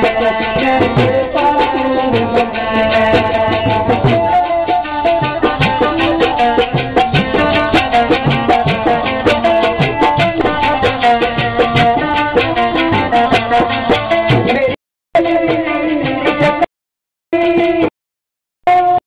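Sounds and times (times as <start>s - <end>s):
fast drum beat: 0.0s - 16.7s.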